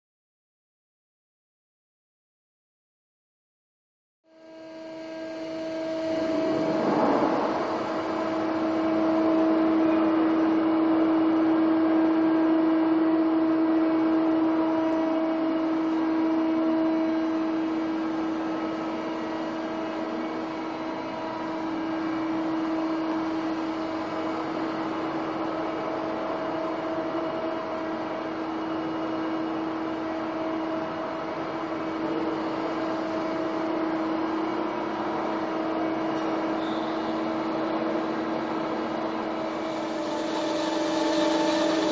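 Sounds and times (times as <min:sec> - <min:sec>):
lathe machine humming: 0:04.3 - 0:41.9.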